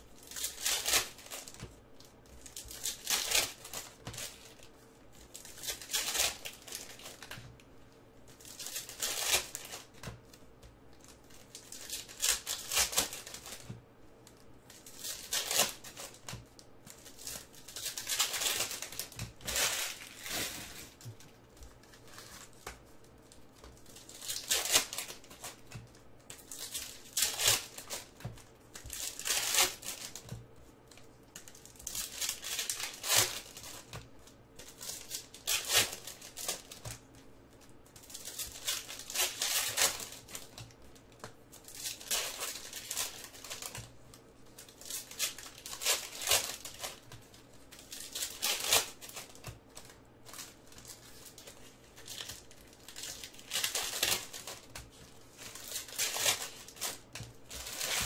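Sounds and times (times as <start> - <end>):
foil wrappers crinkling and tearing: 0.0 - 7.6, 8.2 - 58.0.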